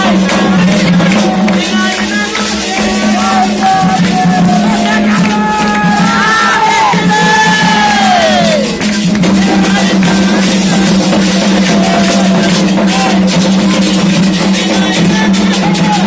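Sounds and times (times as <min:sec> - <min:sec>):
hand drums beating: 0:00.0 - 0:16.0.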